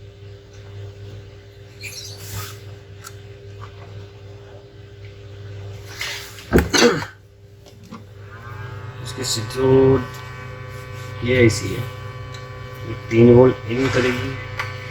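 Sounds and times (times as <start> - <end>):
electrical hum: 0.0 - 14.9.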